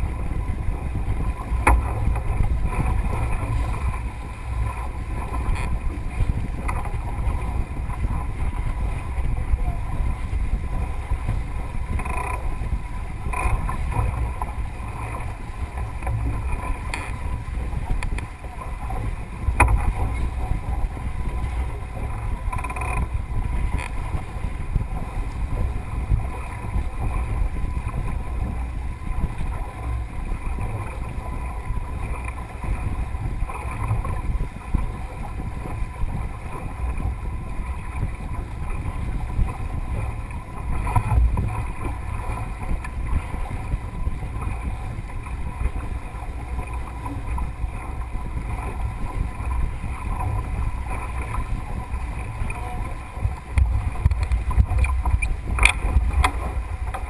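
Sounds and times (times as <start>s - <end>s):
water rushing along hull: 0.0s - 57.0s
wind buffeting microphone: 0.0s - 57.0s.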